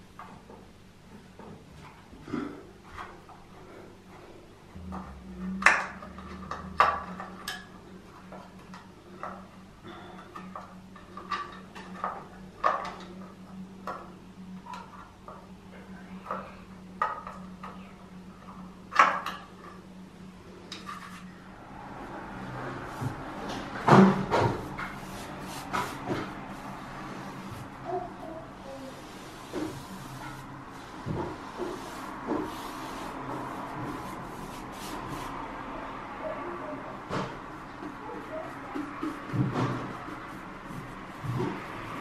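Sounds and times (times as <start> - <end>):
steady low hum: 0.0 - 38.8.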